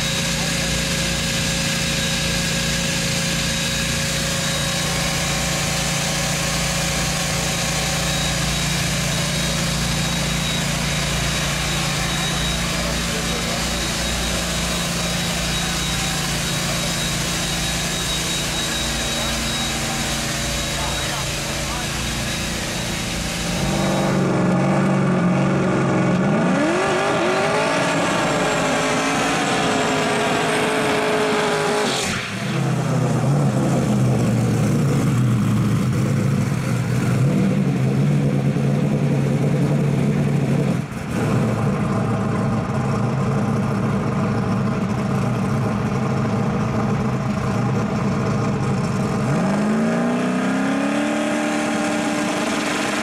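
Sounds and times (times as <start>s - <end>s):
pickup engines revving loudly: 0.0s - 53.0s.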